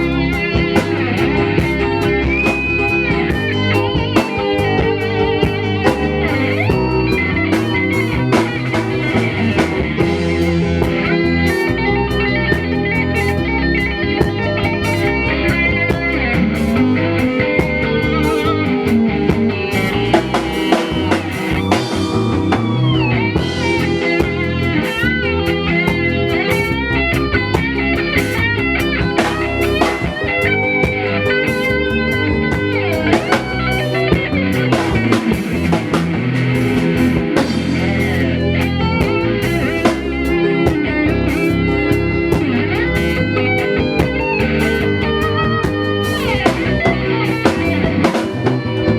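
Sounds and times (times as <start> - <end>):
drum kit: 0.0 - 48.9
electric guitar: 0.0 - 48.9.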